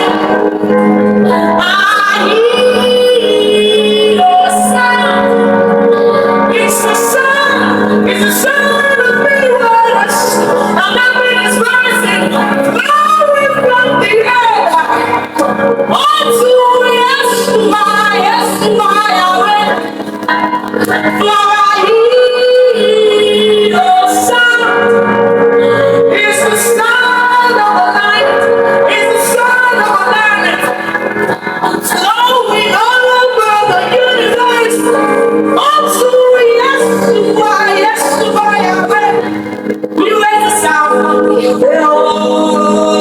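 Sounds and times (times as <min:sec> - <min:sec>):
instrumental backing music: 0:00.0 - 0:43.0
woman singing: 0:00.0 - 0:43.0.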